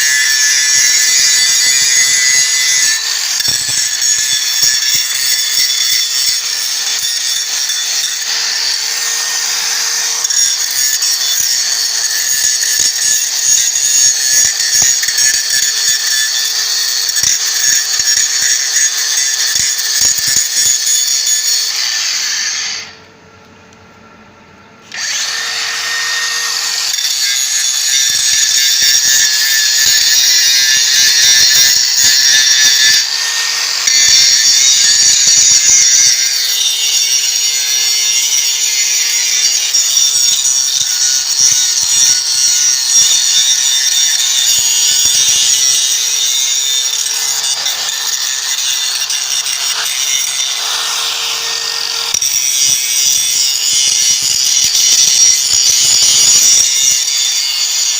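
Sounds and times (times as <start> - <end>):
angle grinder grinding steel: 0.0 - 23.0, 24.8 - 57.9.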